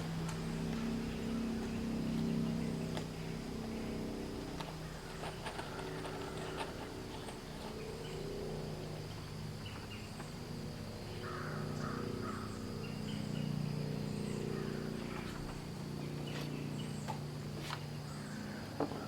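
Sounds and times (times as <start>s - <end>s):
high insect drone: 0.0s - 19.0s
low steady hum: 0.0s - 19.0s.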